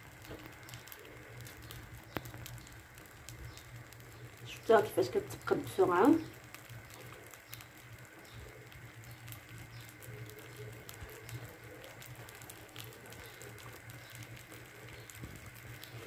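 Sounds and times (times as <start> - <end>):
batter bubbles popping: 0.0 - 16.0
low steady hum: 0.0 - 16.0.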